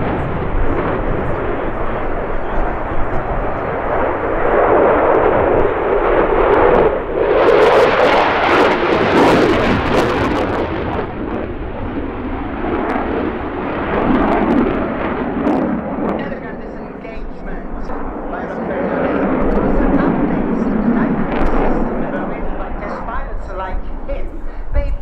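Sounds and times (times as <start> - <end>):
jet engine roar with crackle: 0.0 - 25.0.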